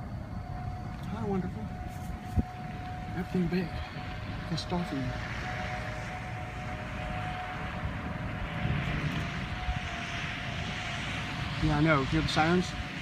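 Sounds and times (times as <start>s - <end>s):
rushing background noise: 0.0s - 13.0s
tornado warning sirens wailing: 0.0s - 13.0s.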